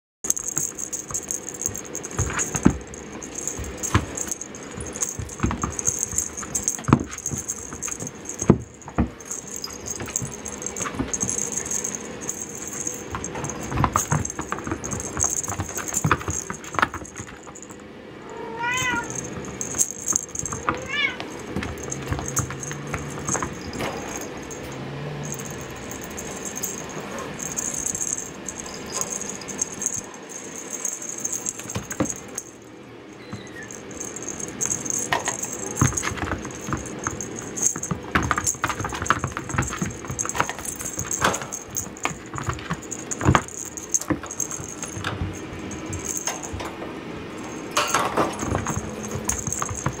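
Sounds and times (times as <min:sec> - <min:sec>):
cats playing on wooden floor: 0:00.3 - 0:32.5, 0:33.2 - 0:50.0.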